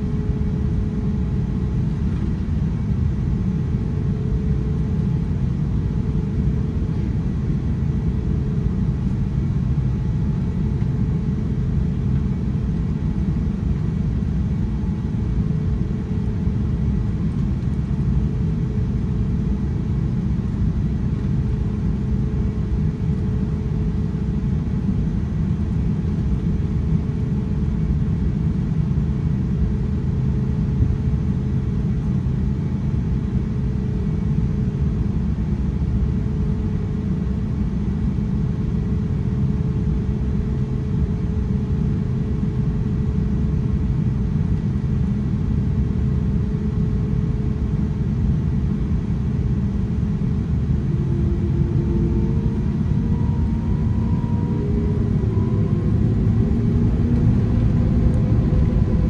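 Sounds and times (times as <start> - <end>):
aircraft cabin engine rumble: 0.0 - 59.0
mid-pitched hum: 0.0 - 59.0.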